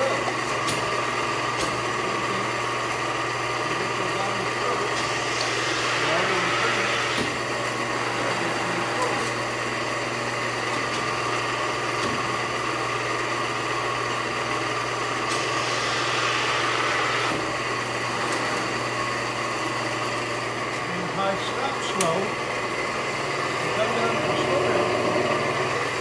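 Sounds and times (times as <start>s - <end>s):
press brake machine hum: 0.0s - 26.0s.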